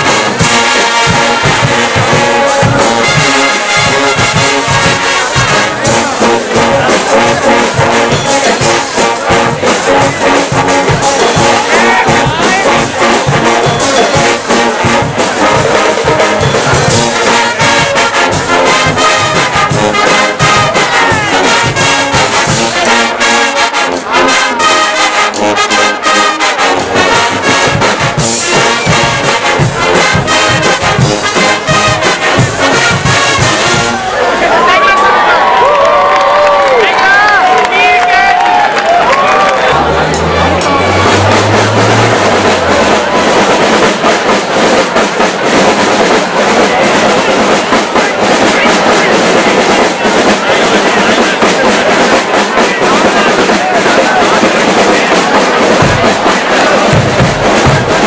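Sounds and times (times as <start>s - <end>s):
percussion beat: 0.0s - 34.1s, 36.4s - 58.0s
brass band playing loudly: 0.0s - 58.0s.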